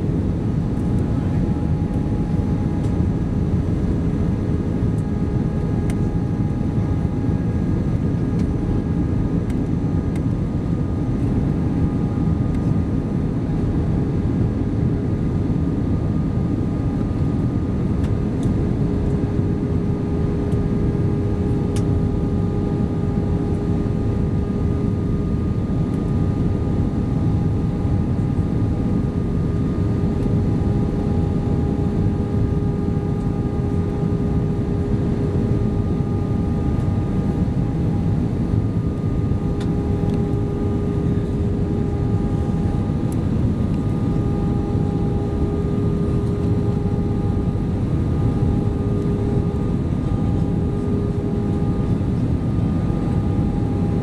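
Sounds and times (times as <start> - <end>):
aircraft cabin rumble: 0.0 - 54.0
steady hum: 0.0 - 54.0.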